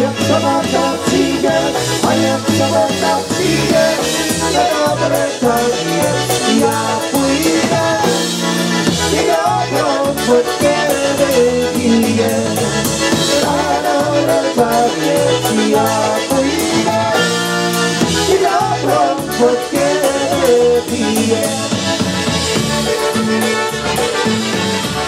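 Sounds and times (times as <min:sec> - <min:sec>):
man singing into microphone: 0:00.0 - 0:08.4, 0:09.0 - 0:21.8
accordion: 0:00.0 - 0:25.0
drum kit beat: 0:00.0 - 0:25.0
electric bass guitar: 0:00.0 - 0:25.0.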